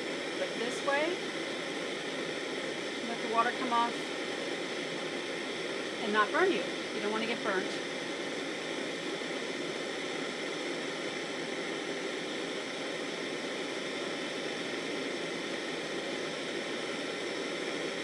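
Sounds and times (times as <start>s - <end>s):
gas torch flame hissing: 0.0s - 18.0s.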